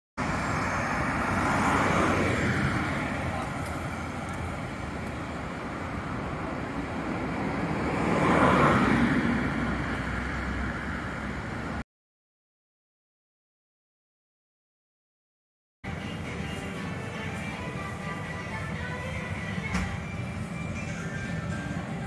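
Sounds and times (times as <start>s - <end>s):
cars passing on city street: 0.2s - 11.8s, 15.8s - 22.0s.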